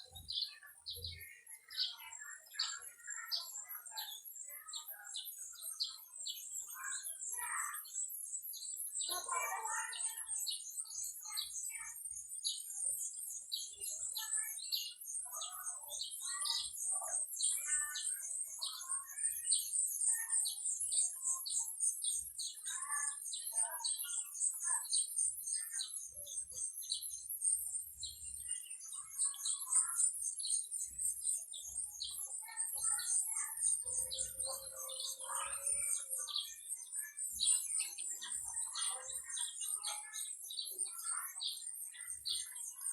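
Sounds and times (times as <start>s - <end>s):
birds chirping and twittering: 0.0s - 42.9s.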